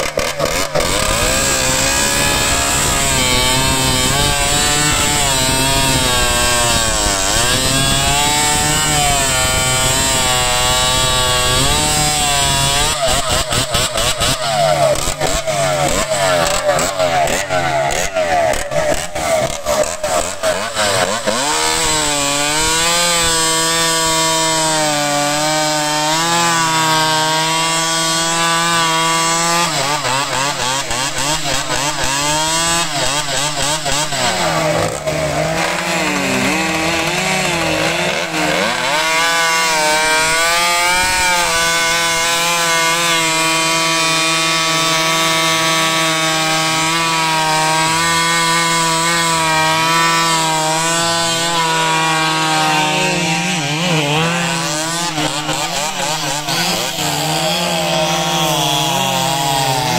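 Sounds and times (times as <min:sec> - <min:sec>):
chainsaw cutting log at high revs: 0:00.0 - 0:59.9.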